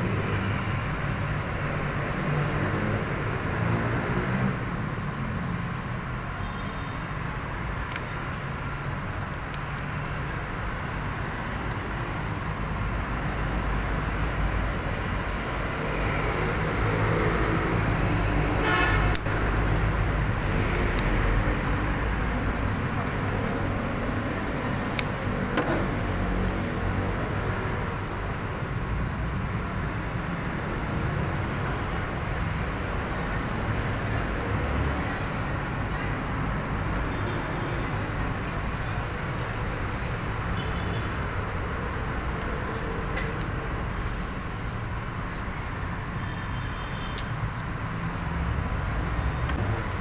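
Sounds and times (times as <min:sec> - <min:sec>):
low traffic rumble: 0:00.0 - 0:50.0.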